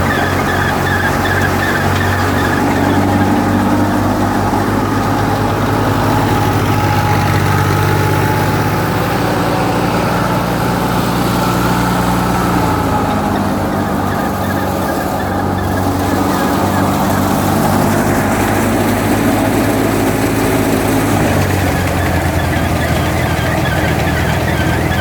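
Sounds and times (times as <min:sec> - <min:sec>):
thresher machine drone: 0:00.0 - 0:25.0.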